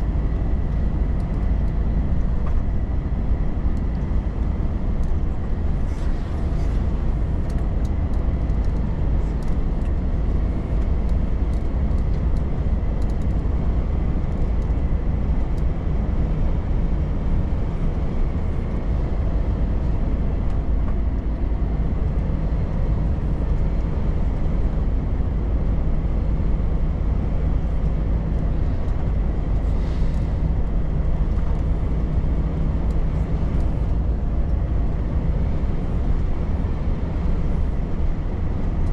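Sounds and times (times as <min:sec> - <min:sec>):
truck engine and road rumble: 0:00.0 - 0:38.9.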